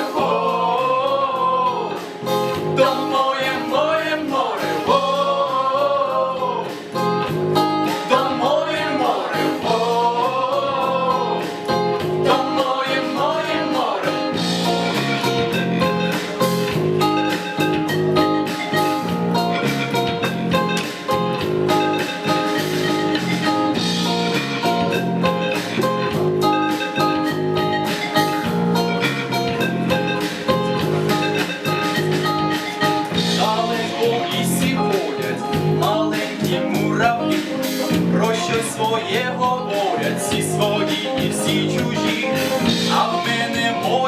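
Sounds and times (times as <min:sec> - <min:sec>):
guitar melody: 0:00.0 - 0:44.0
live band instrumental: 0:00.0 - 0:44.0.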